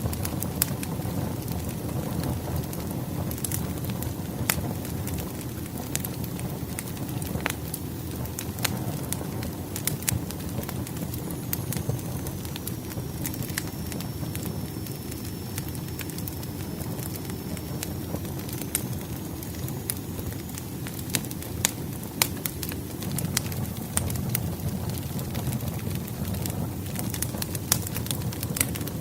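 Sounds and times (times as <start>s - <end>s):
low steady rumble: 0.0s - 29.0s
wood fire crackling: 0.0s - 29.0s.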